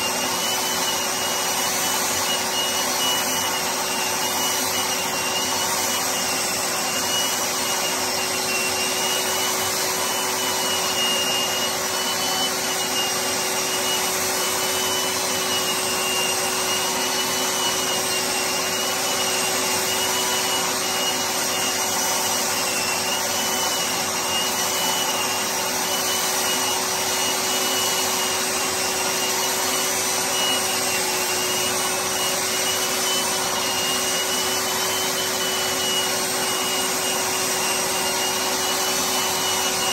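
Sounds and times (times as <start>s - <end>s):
electric drywall sander: 0.0s - 39.9s.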